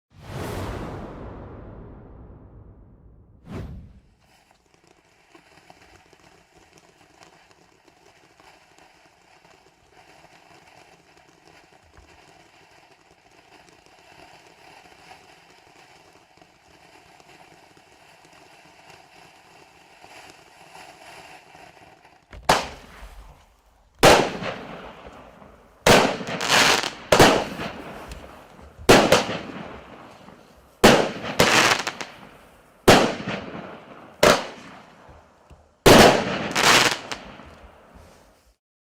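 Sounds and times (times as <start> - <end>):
firework shots: 0.1 - 38.6.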